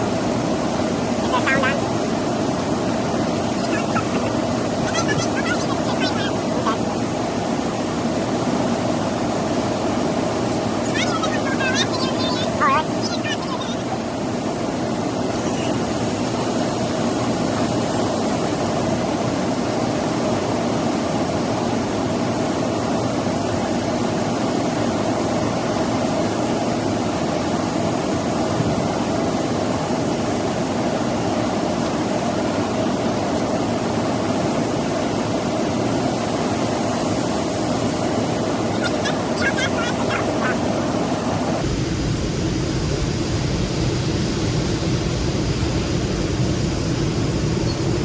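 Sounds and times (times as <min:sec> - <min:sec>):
large engine droning: 0:00.0 - 0:48.0.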